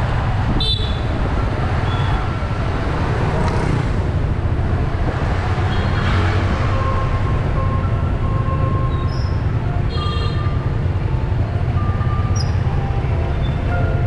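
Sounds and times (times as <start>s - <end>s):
surrounding traffic: 0.0s - 14.0s
wind and road noise: 0.0s - 14.0s.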